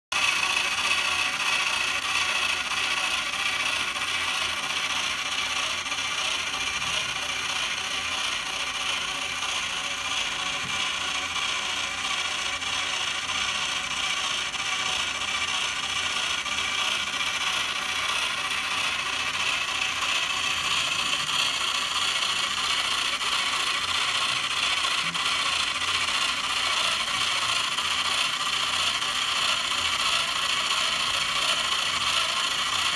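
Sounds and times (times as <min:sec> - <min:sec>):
rapid mechanical clicking and whirring: 0:00.1 - 0:32.9.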